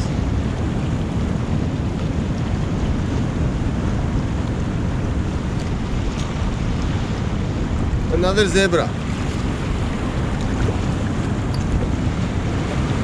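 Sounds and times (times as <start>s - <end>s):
sea surf washing against rocks: 0.0s - 13.0s
wind rumbling on microphone: 0.0s - 13.0s.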